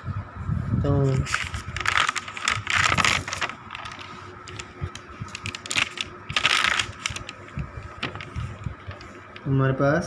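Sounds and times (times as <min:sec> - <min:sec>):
notebook pages turning: 0:01.1 - 0:09.4
paper rustle: 0:01.1 - 0:09.4.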